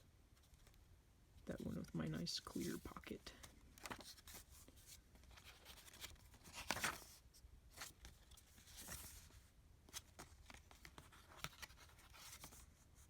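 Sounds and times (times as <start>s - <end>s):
soft handling sounds: 0.0s - 13.0s
paper pages rustling: 1.6s - 13.0s.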